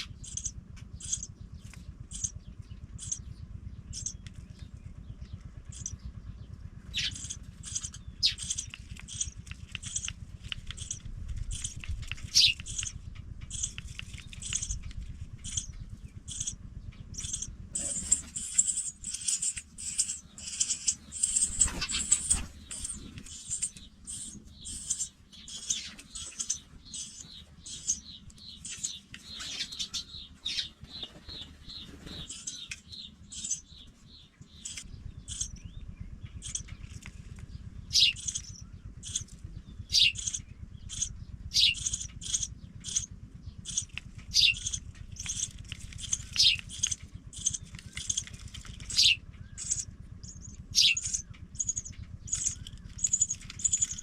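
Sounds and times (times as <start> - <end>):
low steady hum: 0.0 - 54.0
nestlings peeping: 0.0 - 54.0.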